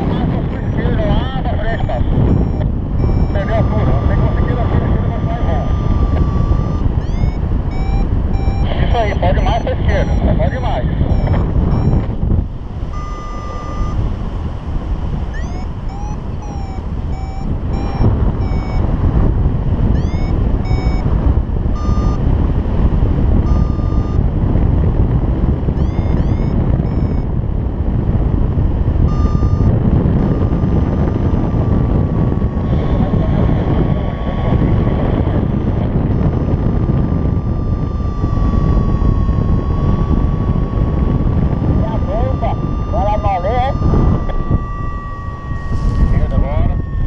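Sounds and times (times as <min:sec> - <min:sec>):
variometer beeping and chirping: 0:00.0 - 0:24.5, 0:25.6 - 0:27.5, 0:28.7 - 0:47.0
wind rushing on microphone: 0:00.0 - 0:47.0.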